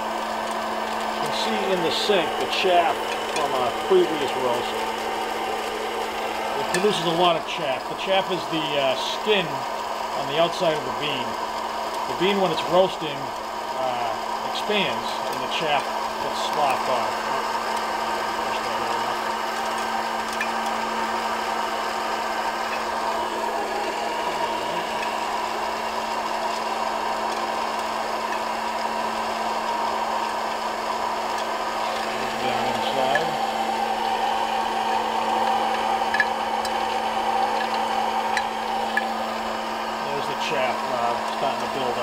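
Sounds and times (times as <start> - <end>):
fan motor humming: 0.0 - 42.0.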